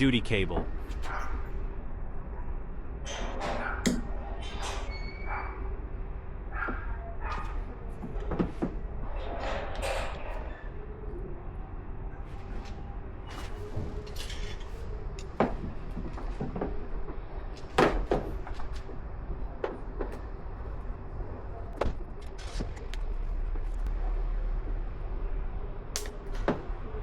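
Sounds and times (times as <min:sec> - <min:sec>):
steady low hum: 0:05.4 - 0:27.0.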